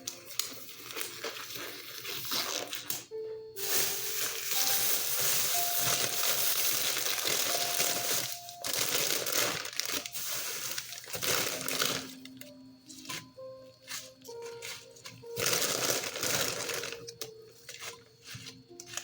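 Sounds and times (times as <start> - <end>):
faint background music: 0.0 - 19.0
plastic packaging crinkling: 0.0 - 19.0.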